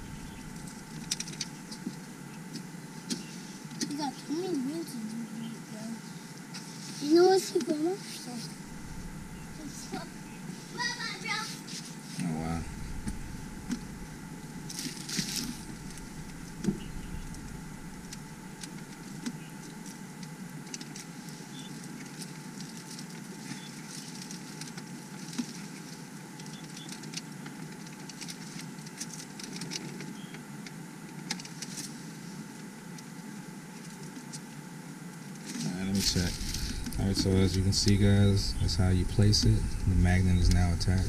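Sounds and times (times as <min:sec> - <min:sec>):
background hiss: 0:00.0 - 0:41.0.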